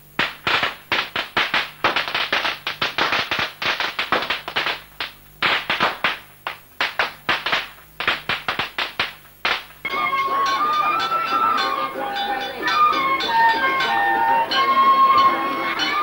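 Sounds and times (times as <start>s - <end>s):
firecrackers cracking: 0.0s - 16.0s.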